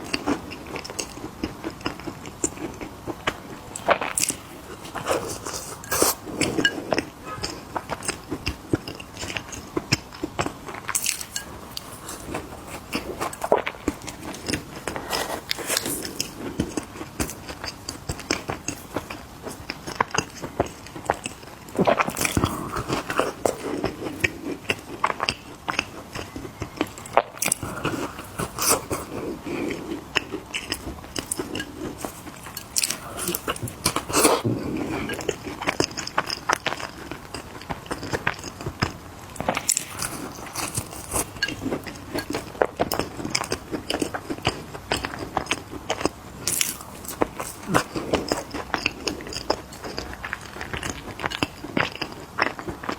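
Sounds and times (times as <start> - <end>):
crunching and chewing cookies: 0.0 - 52.9.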